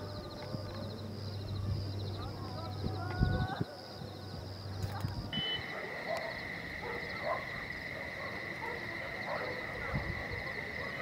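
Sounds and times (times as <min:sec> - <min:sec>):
fast pulsing insect trill: 0:00.2 - 0:11.0.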